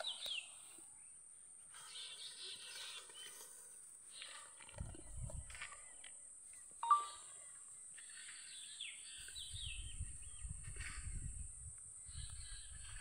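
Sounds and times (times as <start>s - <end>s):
birds calling: 0.0s - 11.4s, 12.0s - 13.0s.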